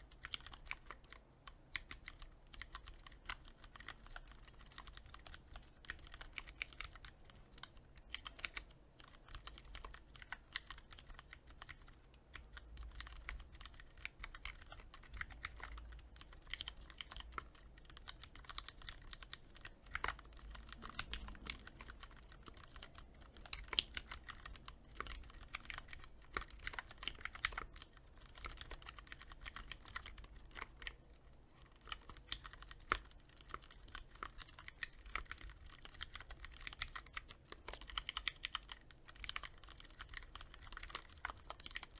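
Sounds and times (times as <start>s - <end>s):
mechanical keyboard typing: 0.0s - 41.9s.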